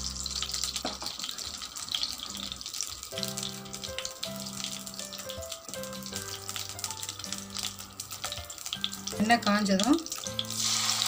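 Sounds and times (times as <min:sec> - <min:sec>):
background music: 0:00.0 - 0:11.0
oil sizzling and popping: 0:00.0 - 0:11.0.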